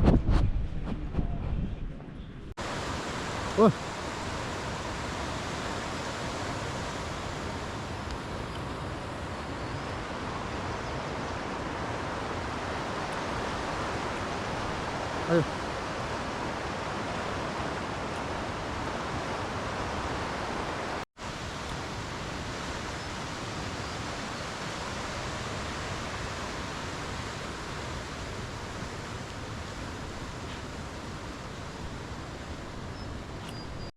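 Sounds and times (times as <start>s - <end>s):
flowing river water: 2.6s - 33.9s.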